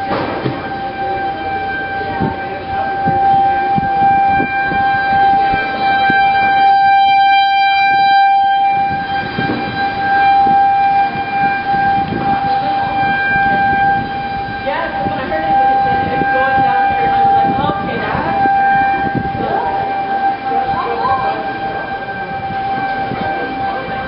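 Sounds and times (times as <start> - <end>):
tornado warning siren: 0.0 - 24.0
wind: 0.0 - 24.0.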